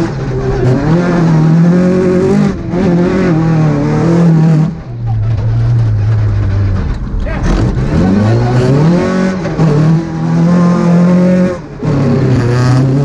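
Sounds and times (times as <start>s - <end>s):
gravel and road noise: 0.0s - 13.0s
rally car engine revving: 0.0s - 13.0s.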